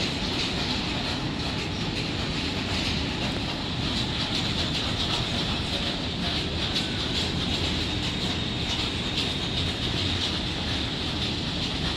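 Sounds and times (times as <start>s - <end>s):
freight train rolling past: 0.0s - 11.9s.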